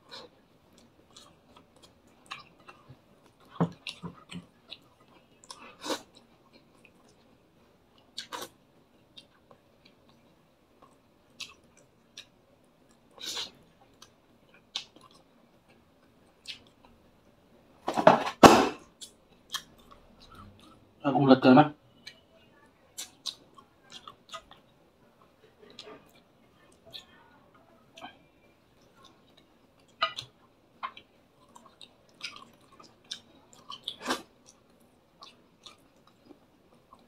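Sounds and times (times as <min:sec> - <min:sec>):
person chewing food: 0:00.0 - 0:07.3, 0:07.9 - 0:17.0, 0:18.9 - 0:20.8, 0:23.0 - 0:27.1, 0:28.8 - 0:37.0.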